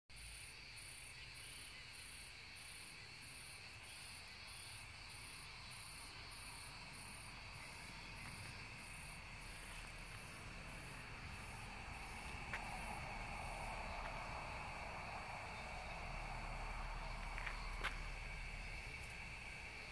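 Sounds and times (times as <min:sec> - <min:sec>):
crickets chirping: 0:00.2 - 0:19.9
high insect drone: 0:00.2 - 0:19.9.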